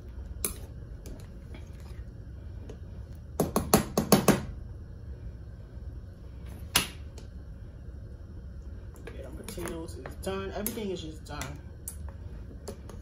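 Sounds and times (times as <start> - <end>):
low hum: 0.0 - 3.4, 4.4 - 13.0.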